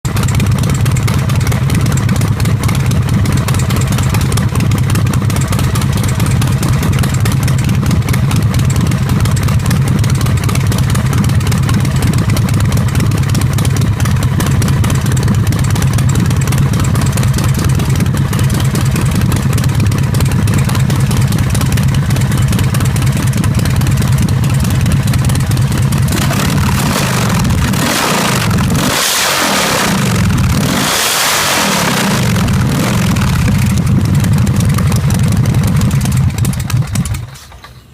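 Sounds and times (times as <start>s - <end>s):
motorcycle engine idling: 0.0s - 30.6s, 31.5s - 37.9s.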